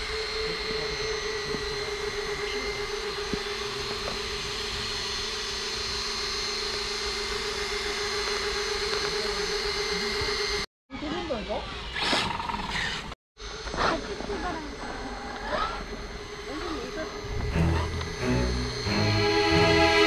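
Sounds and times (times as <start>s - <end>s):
motor whine: 0.0s - 20.0s.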